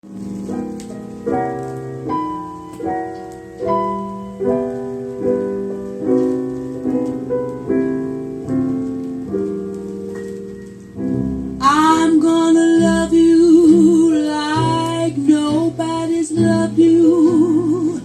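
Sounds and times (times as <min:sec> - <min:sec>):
solo piano chords: 0:00.0 - 0:18.0.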